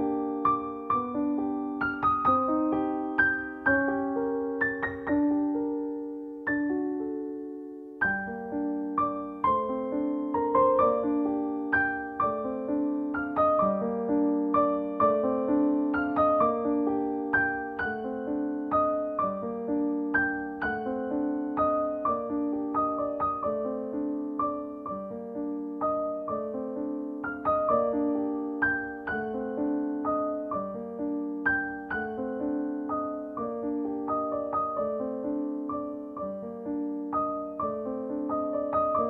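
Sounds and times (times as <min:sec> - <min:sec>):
gentle piano melody: 0:00.0 - 0:39.0.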